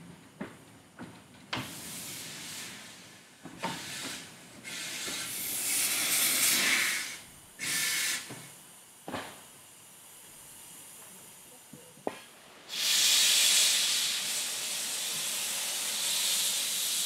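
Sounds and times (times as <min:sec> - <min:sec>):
steam locomotive hissing steam: 0:01.6 - 0:17.0.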